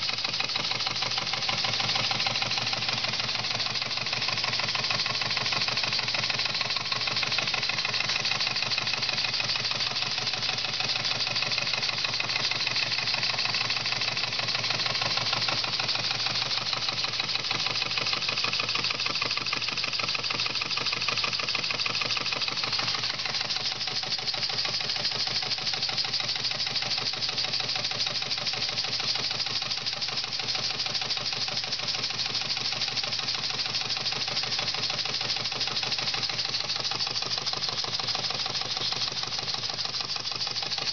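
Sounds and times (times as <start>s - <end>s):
steam engine exhaust beats: 0.0s - 40.9s.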